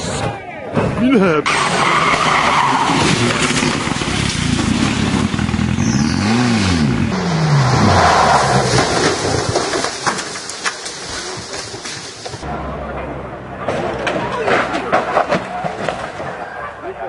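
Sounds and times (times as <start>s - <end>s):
rally car engines at full throttle: 0.0s - 17.0s.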